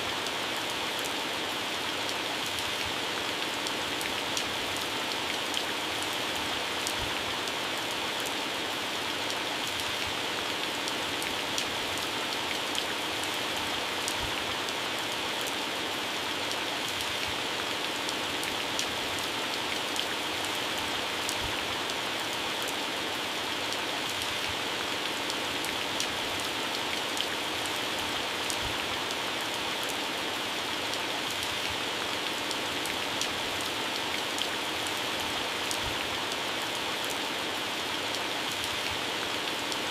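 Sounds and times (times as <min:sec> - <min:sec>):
heavy rain on plants: 0:00.0 - 0:39.9.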